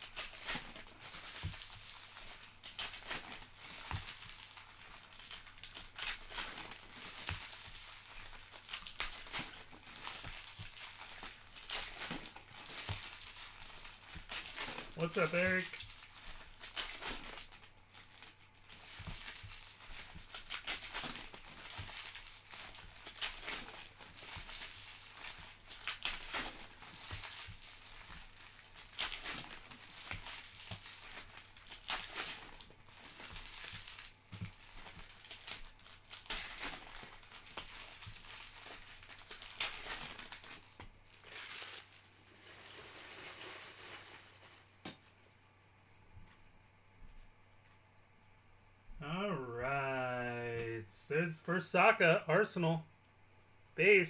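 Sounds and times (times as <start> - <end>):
card wrappers crinkling and tearing: 0.0 - 45.0.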